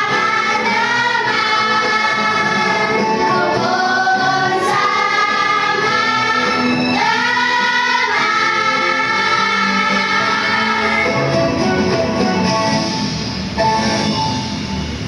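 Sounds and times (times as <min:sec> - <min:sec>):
children's choir singing: 0:00.0 - 0:12.9.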